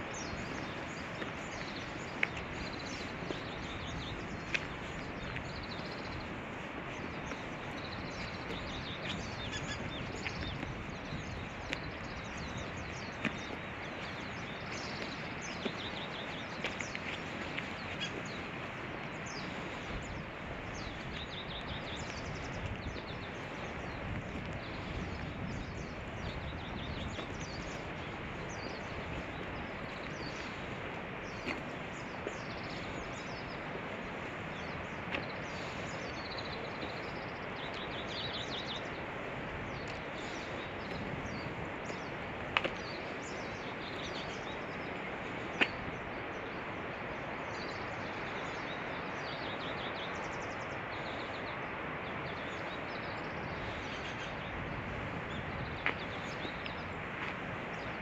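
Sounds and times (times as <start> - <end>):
small birds chirping: 0.0 - 58.0
steady background noise: 0.0 - 58.0.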